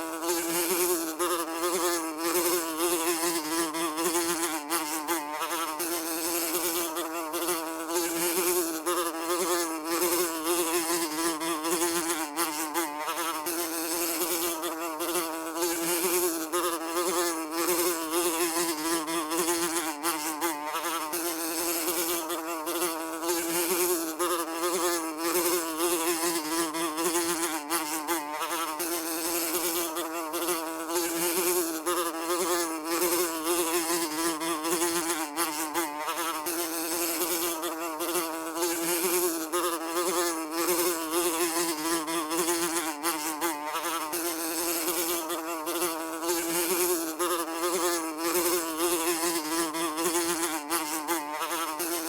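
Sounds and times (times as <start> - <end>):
housefly buzzing: 0.0 - 52.0.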